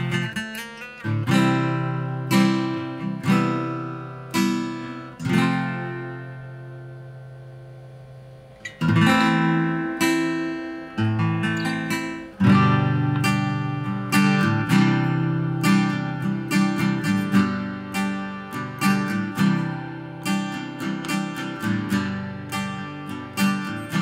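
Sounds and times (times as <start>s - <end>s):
acoustic guitar strummed chords: 0.0s - 24.0s.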